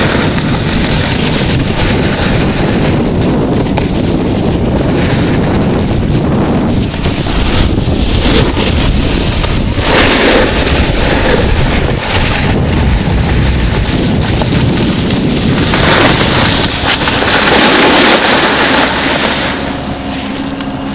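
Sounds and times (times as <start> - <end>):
skis sliding on snow: 0.0 - 20.9
wind buffeting microphone: 0.0 - 20.9.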